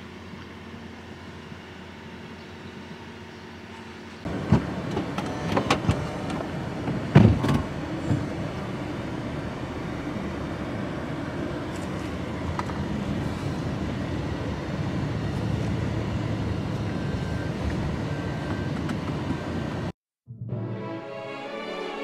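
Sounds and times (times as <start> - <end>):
low outdoor rumble: 0.0 - 19.9.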